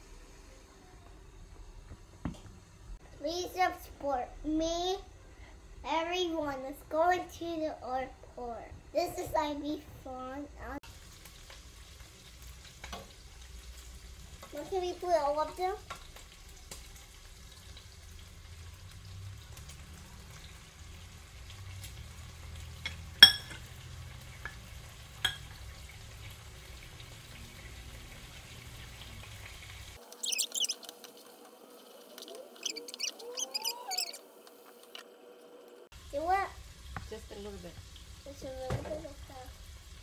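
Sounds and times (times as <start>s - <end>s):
meat sizzling in a pot: 5.6s - 35.0s, 35.8s - 40.0s.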